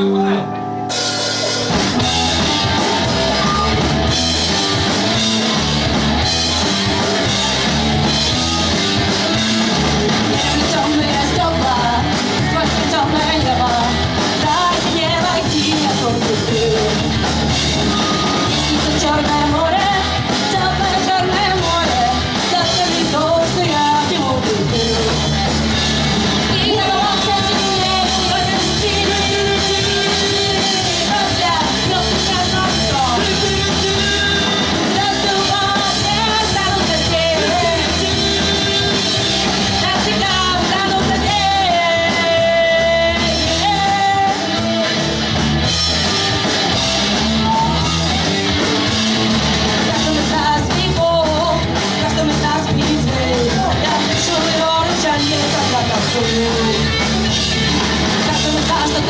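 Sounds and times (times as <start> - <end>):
lead singer singing: 0.0 - 59.0
live rock band playing: 0.0 - 59.0.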